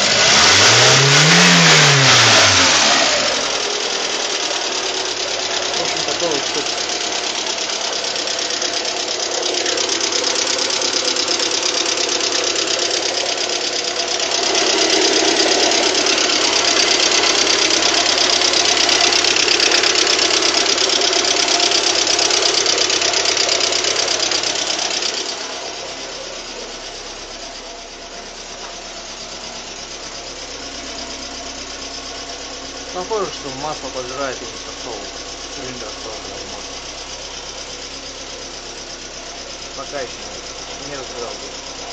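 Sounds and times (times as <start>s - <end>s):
engine running with rapid knock: 0.0s - 41.9s.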